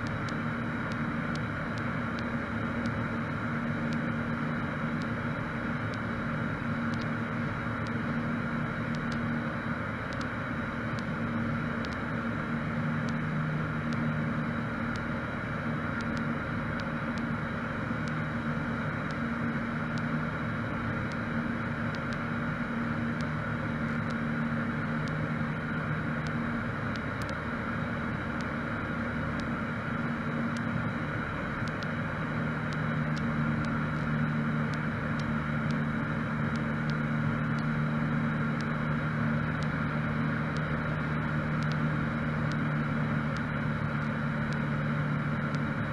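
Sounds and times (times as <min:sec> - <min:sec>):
aircraft engine droning: 0:00.0 - 0:45.9.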